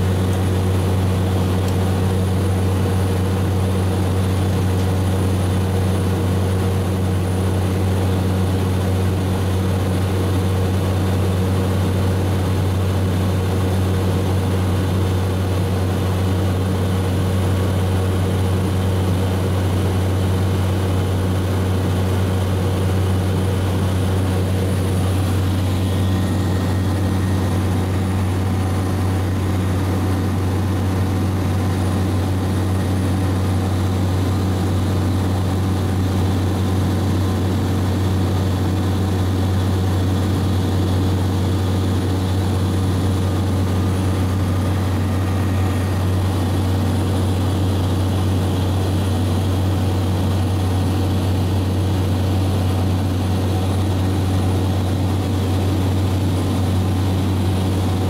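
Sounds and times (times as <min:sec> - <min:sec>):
propeller aircraft cabin drone: 0:00.0 - 0:58.0.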